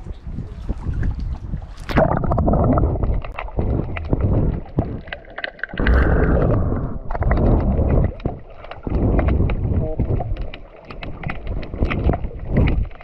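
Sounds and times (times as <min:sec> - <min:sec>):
water gurgling and sloshing: 0:00.0 - 0:13.0.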